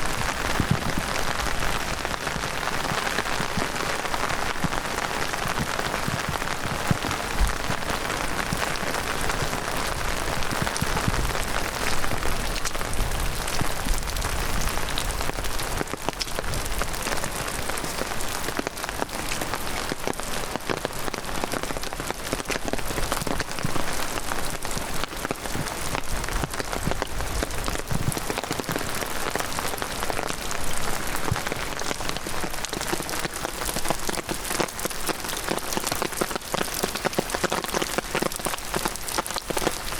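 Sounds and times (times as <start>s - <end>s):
heavy rain on ground and leaves: 0.0s - 39.9s.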